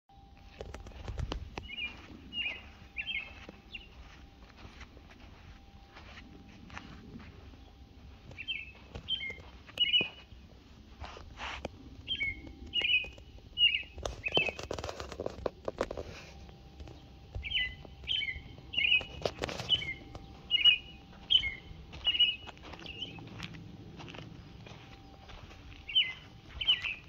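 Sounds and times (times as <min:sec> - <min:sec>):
scuffing noises: 0:00.3 - 0:27.0
small bird chirping: 0:00.4 - 0:16.0, 0:16.8 - 0:27.0.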